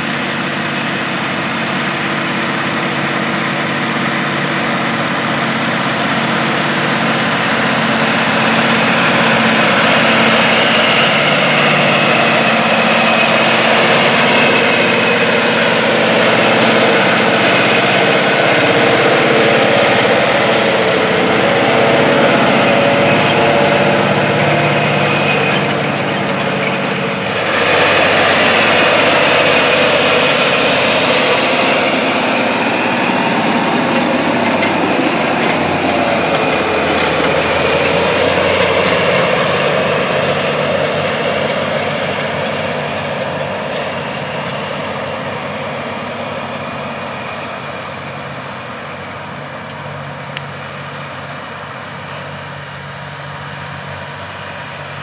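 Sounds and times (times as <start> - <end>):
broad rushing noise: 0.0 - 55.0
tractor diesel engine under load: 0.0 - 55.0.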